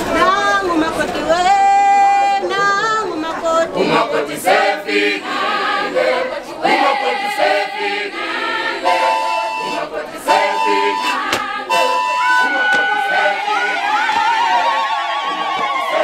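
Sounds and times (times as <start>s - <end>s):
group of women singing: 0.1s - 14.7s.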